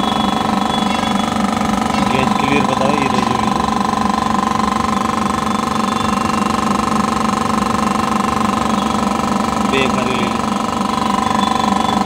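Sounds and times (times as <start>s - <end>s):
hydraulic pump buzzing: 0.0s - 12.0s.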